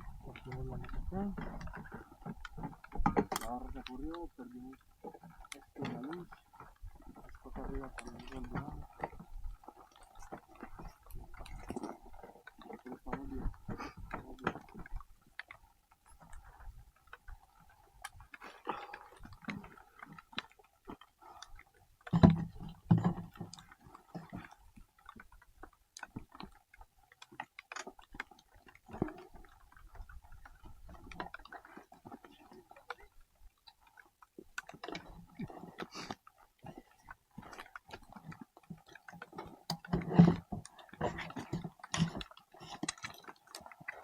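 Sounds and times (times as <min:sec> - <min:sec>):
small clicks and knocks: 0:00.3 - 0:44.0.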